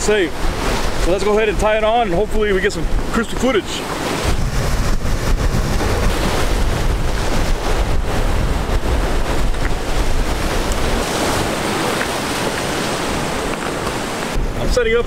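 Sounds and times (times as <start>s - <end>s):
surf breaking against rocks: 0.0s - 15.0s
wind buffeting microphone: 0.0s - 15.0s.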